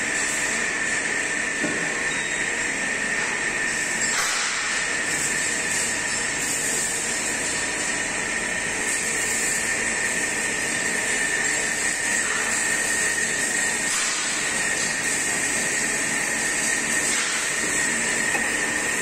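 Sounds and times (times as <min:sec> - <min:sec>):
machine high whine: 0:00.0 - 0:19.0
machine hiss: 0:03.7 - 0:19.0.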